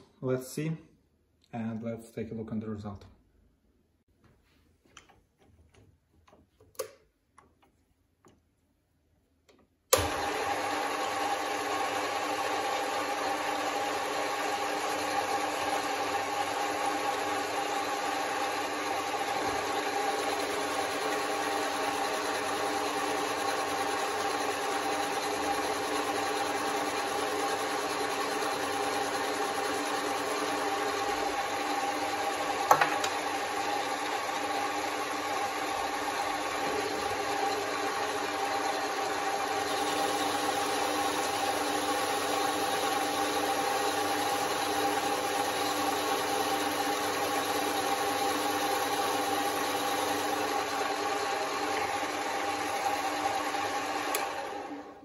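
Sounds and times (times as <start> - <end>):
metal lathe motor whine: 10.0 - 54.8.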